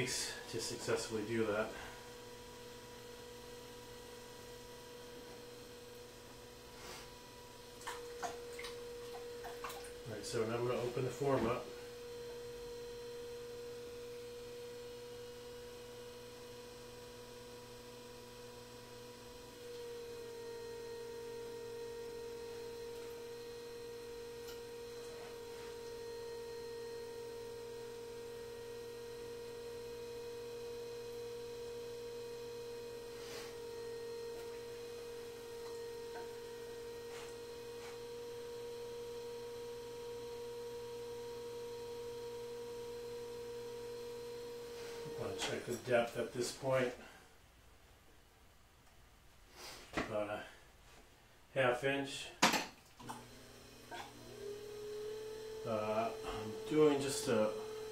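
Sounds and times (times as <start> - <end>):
potter's wheel motor hum: 0.0 - 47.1, 52.8 - 57.9.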